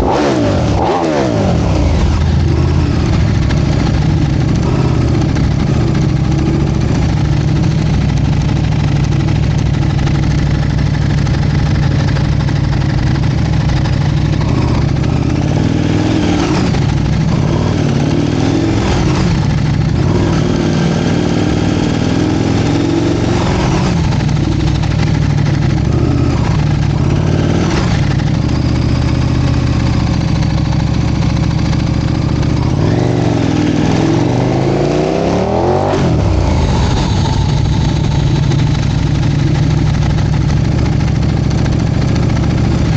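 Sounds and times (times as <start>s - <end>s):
motorcycle engines idling and revving: 0.0s - 42.9s.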